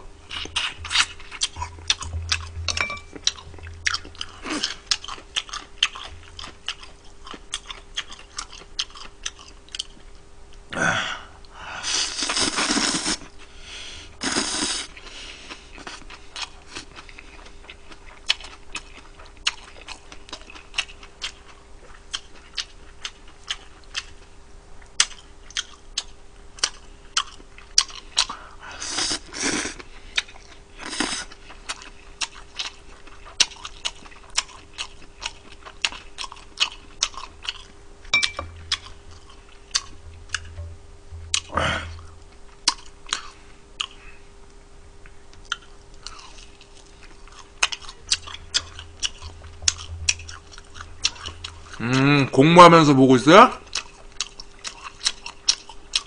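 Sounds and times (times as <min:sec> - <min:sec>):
person chewing with smacking clicks: 0:00.3 - 0:10.7, 0:14.9 - 0:28.4, 0:29.0 - 0:40.7, 0:41.3 - 0:44.0, 0:45.0 - 0:52.1, 0:53.6 - 0:56.0.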